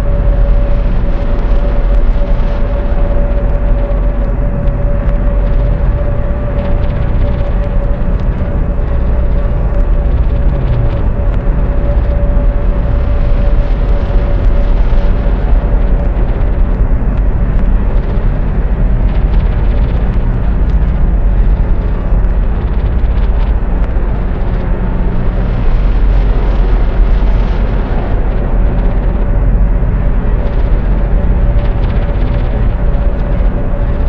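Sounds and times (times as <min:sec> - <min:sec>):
loud dense rumbling noise: 0:00.0 - 0:34.0.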